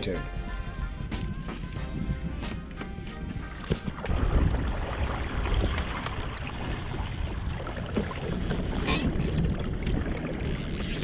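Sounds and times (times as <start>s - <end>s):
water lapping against hull: 0.0s - 11.0s
wind on microphone: 0.3s - 11.0s.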